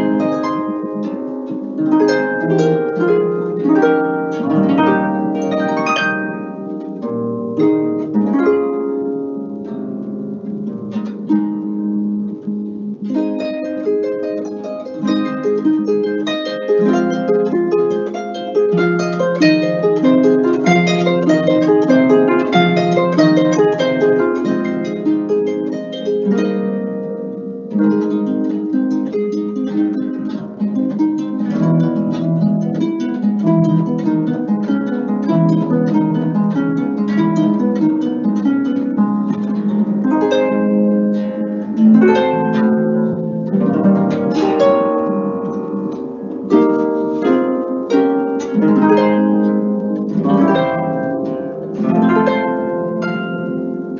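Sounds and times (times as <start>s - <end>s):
solo harp melody: 0.0s - 53.9s.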